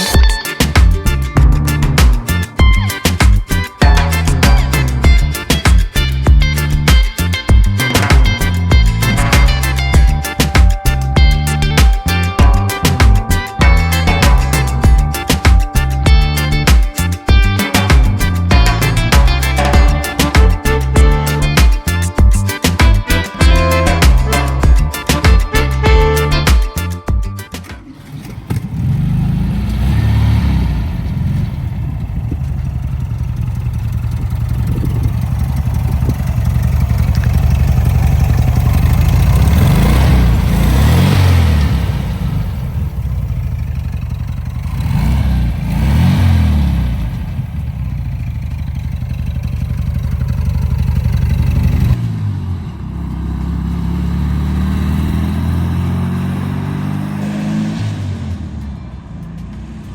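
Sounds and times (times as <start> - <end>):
engine running and revving: 0.0 - 26.5, 27.7 - 59.9.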